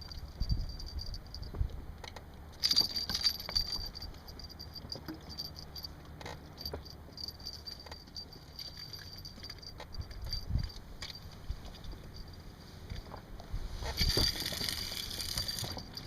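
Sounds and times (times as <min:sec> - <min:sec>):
light metallic jingling and clicking: 0:00.0 - 0:13.2, 0:13.8 - 0:16.0.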